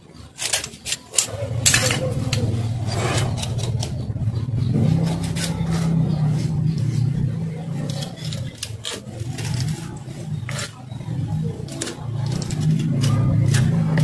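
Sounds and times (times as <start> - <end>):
low engine drone: 1.3 - 14.0.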